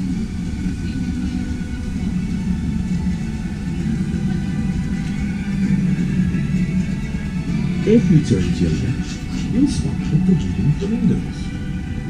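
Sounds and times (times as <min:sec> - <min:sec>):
boat low rumble and hum: 0:00.0 - 0:12.0.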